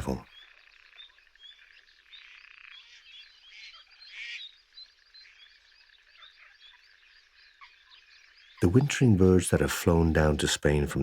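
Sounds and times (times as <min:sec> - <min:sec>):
waterbirds calling: 0:00.0 - 0:11.0.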